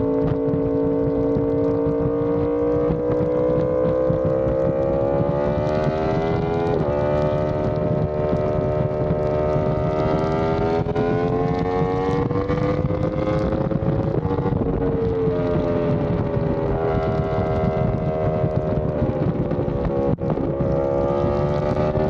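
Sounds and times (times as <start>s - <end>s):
motorcycle engine at speed: 0.0s - 22.0s
wind rushing: 0.0s - 22.0s.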